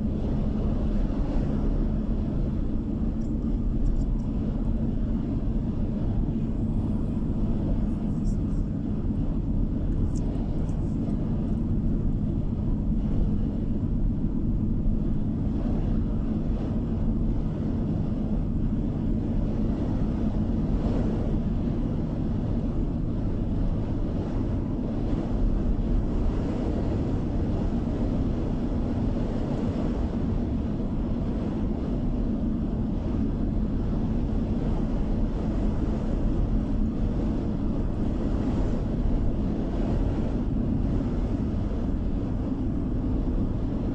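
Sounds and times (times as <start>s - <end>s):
car driving interior drone: 0.0s - 43.9s.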